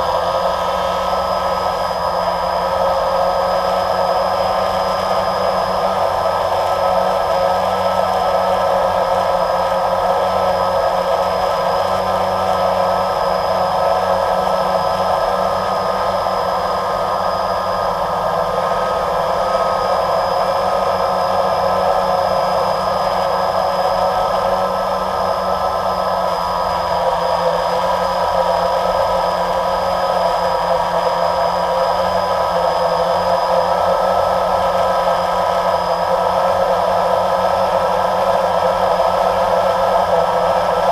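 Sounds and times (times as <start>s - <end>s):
drone motors and propellers whirring: 0.0s - 40.9s.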